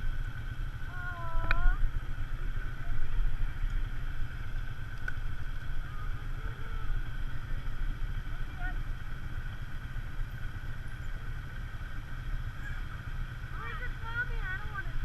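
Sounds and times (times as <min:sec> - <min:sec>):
engine running low rumble: 0:00.0 - 0:15.0.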